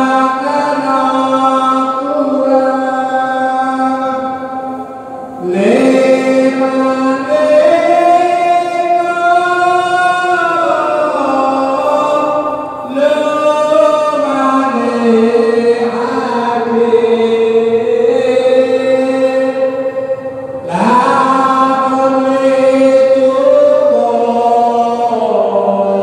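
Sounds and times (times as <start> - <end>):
devotional chanting: 0.0 - 26.0.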